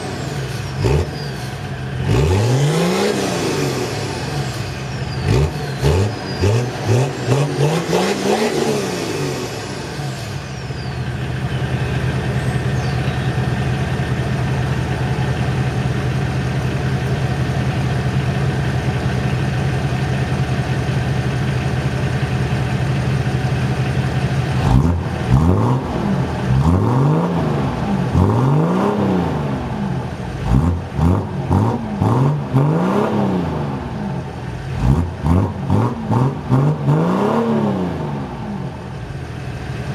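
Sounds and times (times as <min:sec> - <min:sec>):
diesel engine revving and idling: 0:00.0 - 0:39.9.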